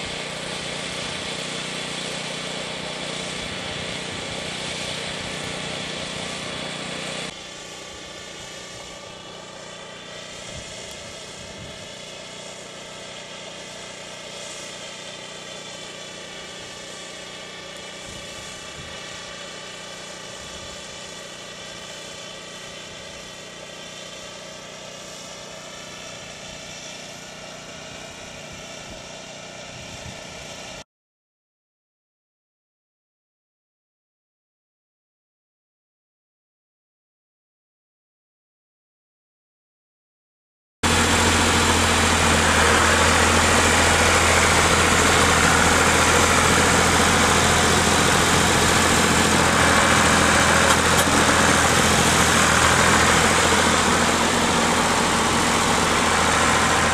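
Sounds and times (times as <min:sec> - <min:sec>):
engine-like hum: 0:00.0 - 0:30.8, 0:40.8 - 0:56.9.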